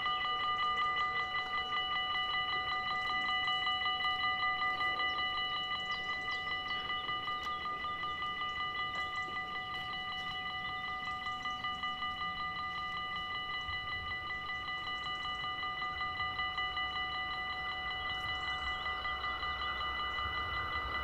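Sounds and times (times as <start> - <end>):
level crossing warning bells: 0.0 - 21.0.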